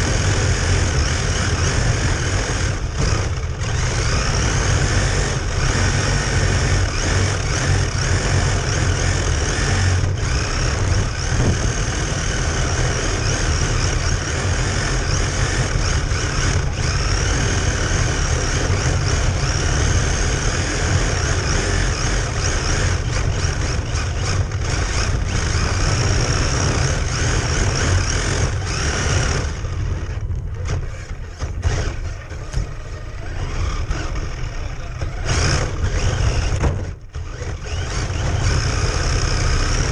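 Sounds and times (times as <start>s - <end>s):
wavering motor whine: 0.0s - 39.9s.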